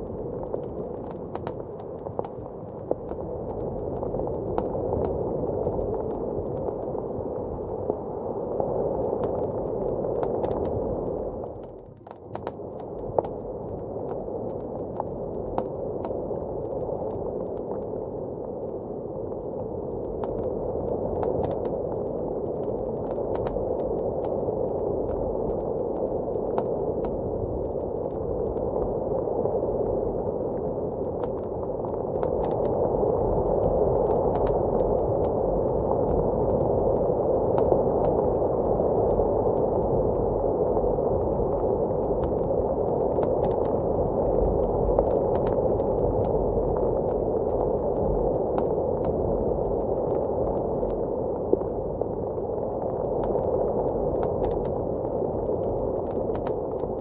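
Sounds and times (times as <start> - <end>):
muffled blizzard wind: 0.0 - 57.0.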